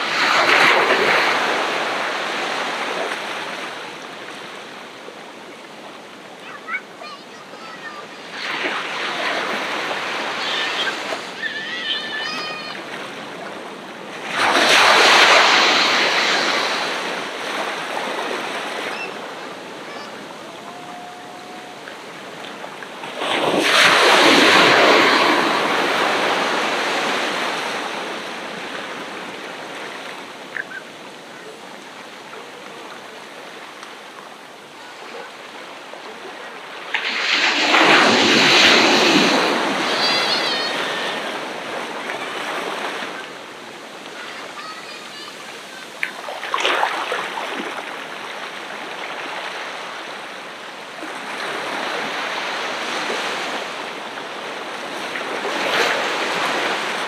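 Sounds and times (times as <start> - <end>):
ocean waves crashing on a beach: 0.0 - 57.0.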